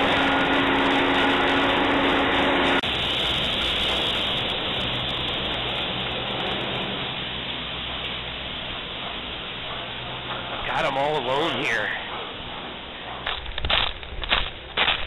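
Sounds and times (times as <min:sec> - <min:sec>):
even rushing noise: 0:00.0 - 0:12.9
whining tones: 0:00.0 - 0:13.4
machinery humming: 0:00.0 - 0:15.0.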